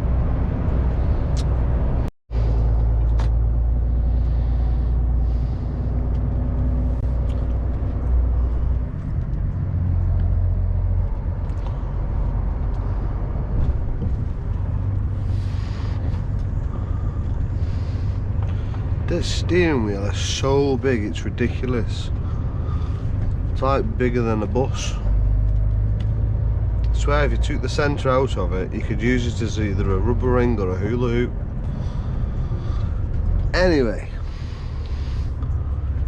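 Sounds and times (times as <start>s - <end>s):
lorry diesel engine drone: 0.0s - 36.0s
road noise: 0.0s - 36.0s.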